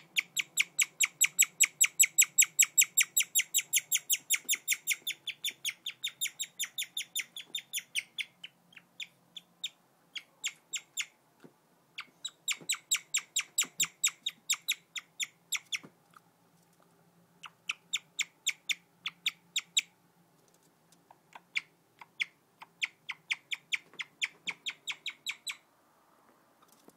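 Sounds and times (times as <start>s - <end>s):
guinea pig chirping: 0.0s - 11.2s, 12.0s - 15.9s, 17.4s - 19.9s, 21.3s - 25.6s.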